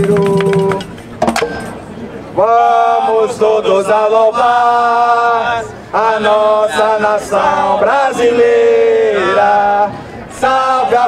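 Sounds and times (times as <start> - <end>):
men singing slowly: 0.0 - 1.0, 2.4 - 11.0.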